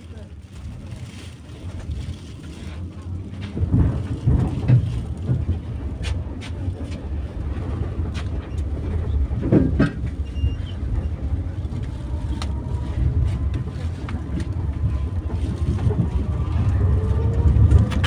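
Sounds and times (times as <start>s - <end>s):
tram running gear rumble: 0.0s - 18.0s
wheels clicking on track: 1.6s - 18.0s.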